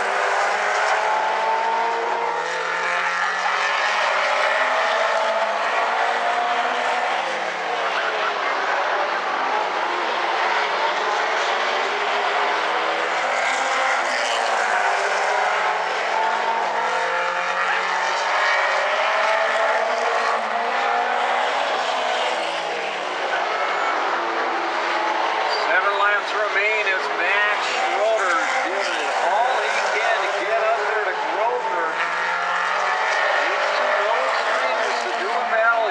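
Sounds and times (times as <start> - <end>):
race car engines running hard: 0.0 - 35.9.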